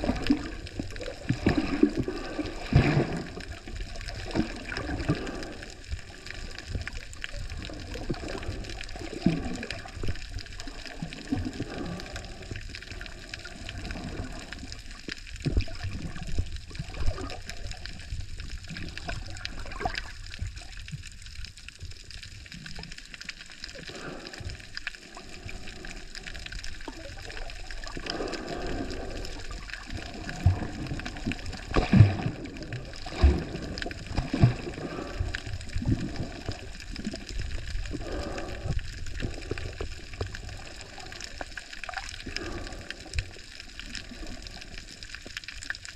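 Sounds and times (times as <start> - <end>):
water sloshing underwater: 0.0 - 45.9.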